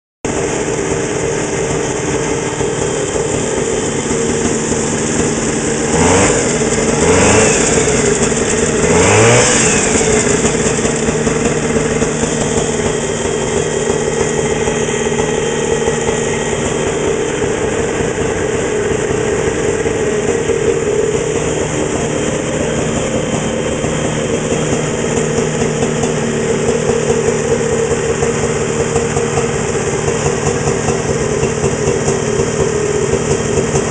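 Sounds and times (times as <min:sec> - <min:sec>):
snowmobile engine idling and revving: 0:00.3 - 0:33.9.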